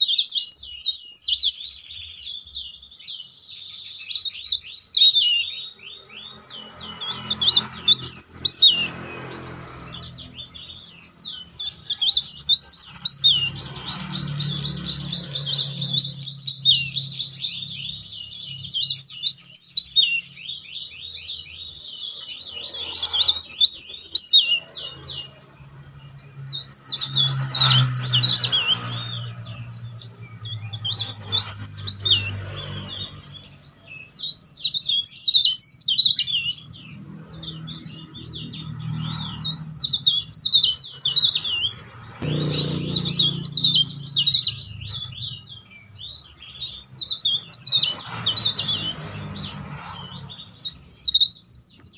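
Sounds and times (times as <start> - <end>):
bird singing: 0.0 - 51.9.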